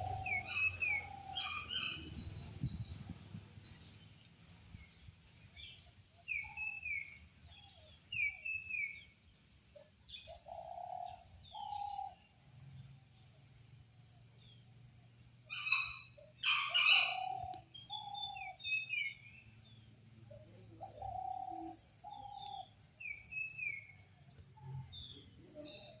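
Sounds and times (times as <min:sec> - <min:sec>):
birds chirping: 0:00.0 - 0:26.0
pulsing insect chirp: 0:00.0 - 0:26.0.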